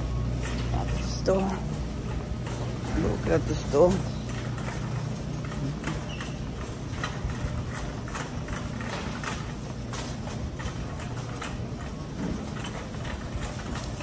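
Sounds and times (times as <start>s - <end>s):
shopping cart rattling: 0.0s - 14.0s
steady low hum: 0.0s - 14.0s.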